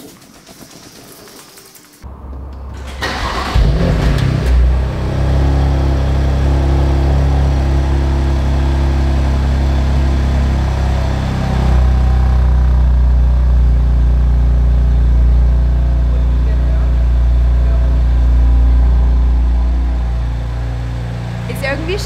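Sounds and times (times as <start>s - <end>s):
car engine revving and idling: 2.0s - 22.0s.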